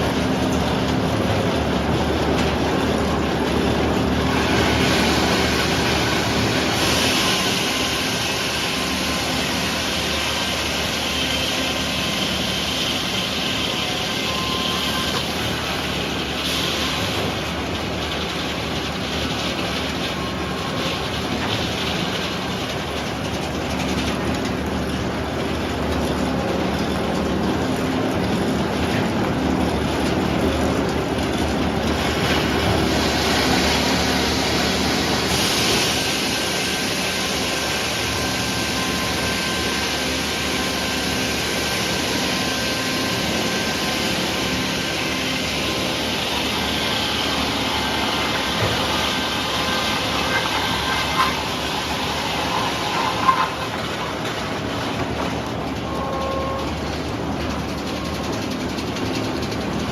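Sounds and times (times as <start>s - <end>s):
sawmill machine drone: 0.0s - 59.9s.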